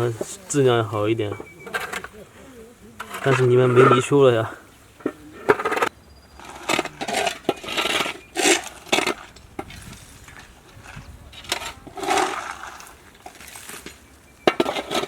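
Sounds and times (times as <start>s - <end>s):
shovels scraping concrete: 0.0s - 15.0s.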